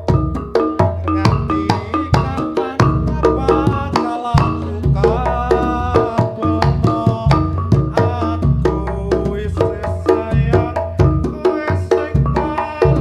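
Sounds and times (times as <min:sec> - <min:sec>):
hand drums beating: 0:00.0 - 0:13.0
heavy bass: 0:00.0 - 0:13.0.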